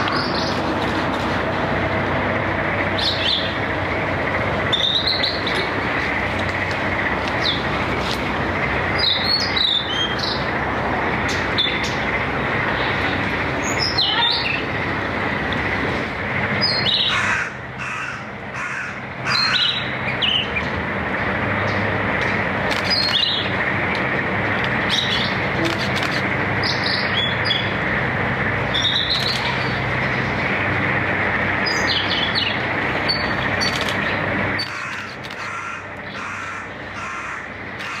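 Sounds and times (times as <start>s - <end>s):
steady background noise: 0.0s - 38.0s.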